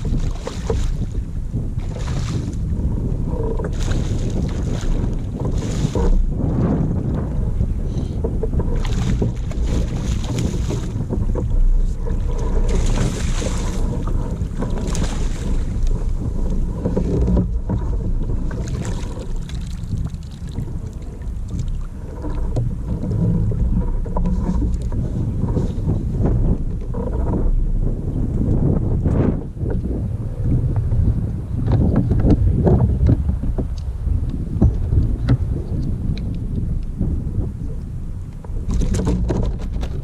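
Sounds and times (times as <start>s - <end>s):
water slapping against boat hull: 0.0s - 40.0s
wind buffeting microphone: 0.0s - 40.0s.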